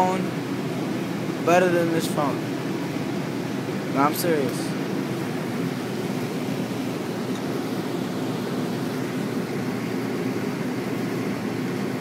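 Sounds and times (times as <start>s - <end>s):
refrigeration unit humming: 0.0s - 12.0s.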